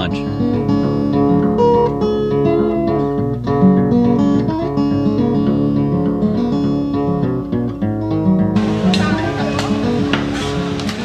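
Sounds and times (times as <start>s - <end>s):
plucked guitar instrumental music: 0.0s - 11.0s.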